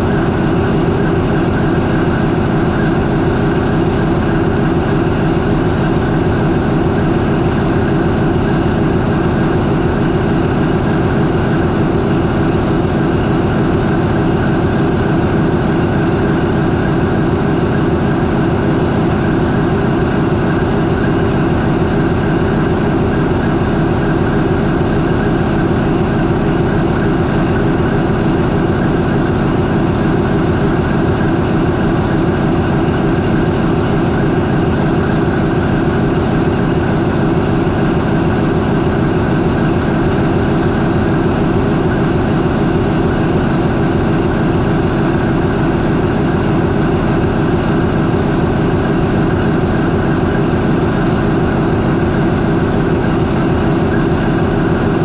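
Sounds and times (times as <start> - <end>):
marine diesel engine idling: 0.0 - 55.0.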